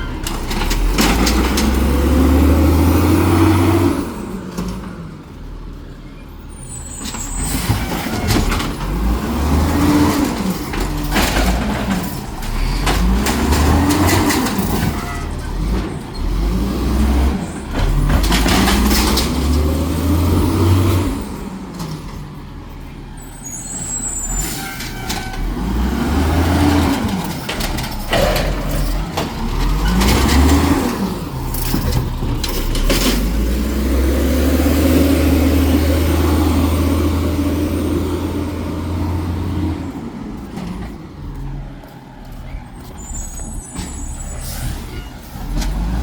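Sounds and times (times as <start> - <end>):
garbage truck engine revving: 0.2 - 5.0, 7.1 - 22.0, 23.7 - 46.0.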